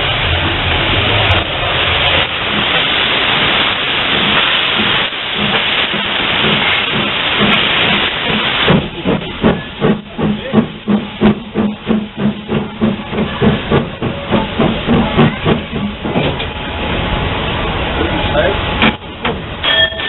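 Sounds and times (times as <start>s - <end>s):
steam hissing: 0.0s - 20.0s
steam locomotive exhaust chuffs: 0.0s - 20.0s.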